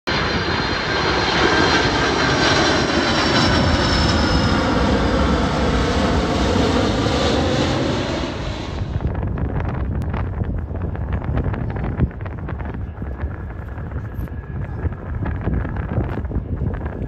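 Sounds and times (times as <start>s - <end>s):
jet airliner roaring overhead: 0.1s - 17.0s.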